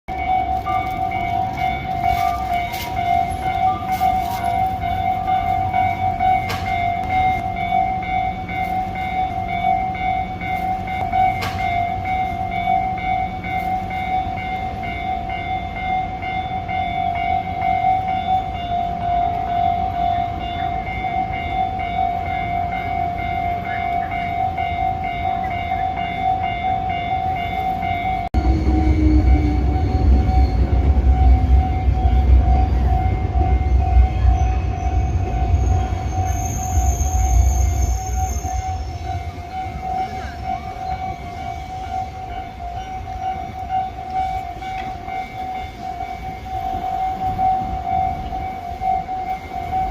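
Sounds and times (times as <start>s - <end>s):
crossing alarm bell ringing: 0.1s - 49.9s
train wheels rumbling on rails: 0.1s - 49.9s.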